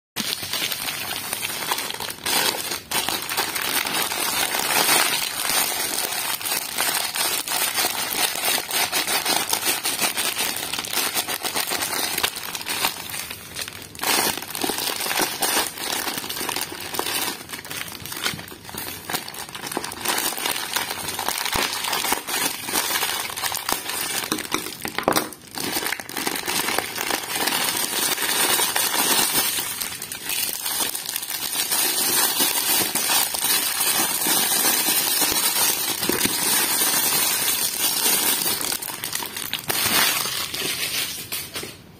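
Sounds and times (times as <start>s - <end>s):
plastic wrap crinkling: 0.2s - 41.9s.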